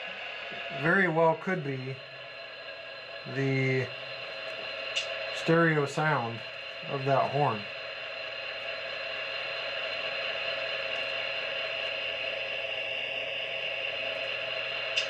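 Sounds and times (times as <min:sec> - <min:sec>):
model locomotive engine hum: 0:00.0 - 0:15.0.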